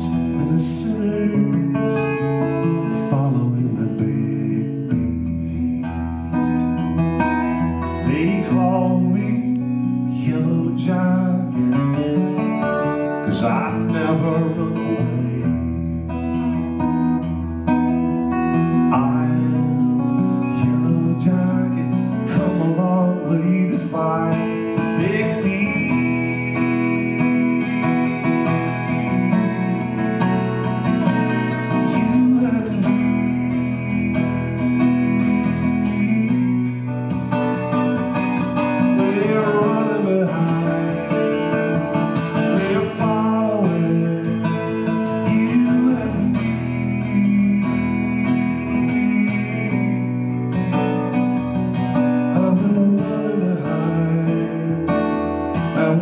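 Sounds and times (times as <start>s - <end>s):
man singing: 0.0s - 17.4s, 18.2s - 56.0s
acoustic guitar strumming: 0.0s - 56.0s.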